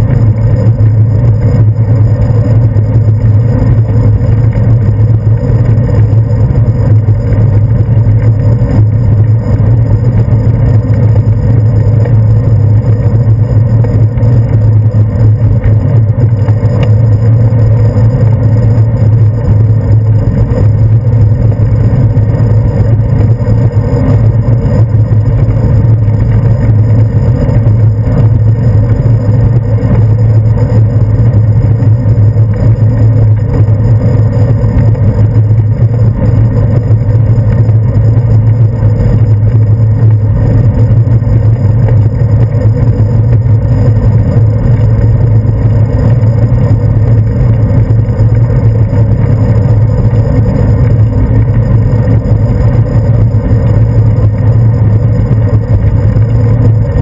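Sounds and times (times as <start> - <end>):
wind and road rumble: 0.0 - 57.0.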